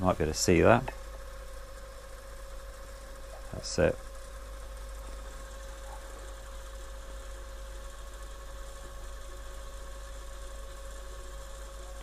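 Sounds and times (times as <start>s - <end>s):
steady hum with faint tone: 0.0s - 12.0s.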